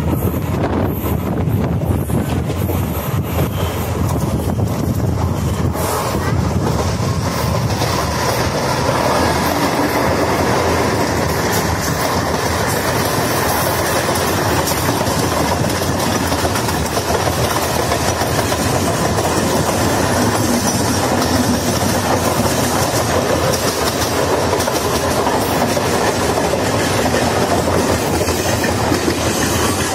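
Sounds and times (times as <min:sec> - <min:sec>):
trains running on rails: 0:00.0 - 0:29.9.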